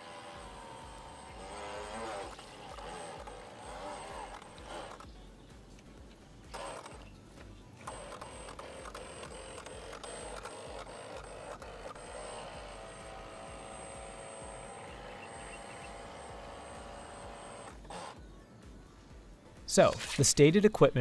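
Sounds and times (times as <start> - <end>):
small electric motor whining: 0.0 - 18.6.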